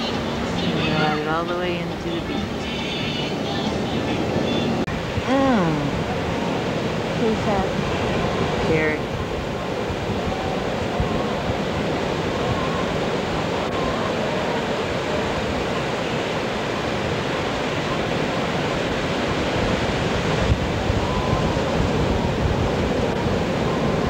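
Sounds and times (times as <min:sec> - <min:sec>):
ocean surf breaking: 0:00.0 - 0:24.0
wind on microphone: 0:00.0 - 0:24.0.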